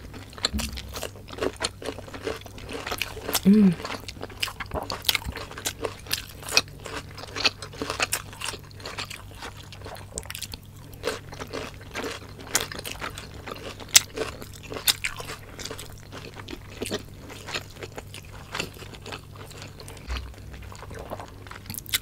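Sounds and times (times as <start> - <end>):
chewing with crunches: 0.0 - 22.0.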